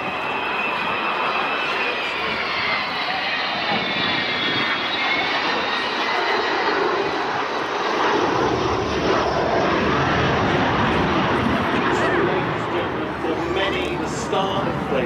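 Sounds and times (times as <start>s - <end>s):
jet bomber roaring past: 0.0s - 15.0s.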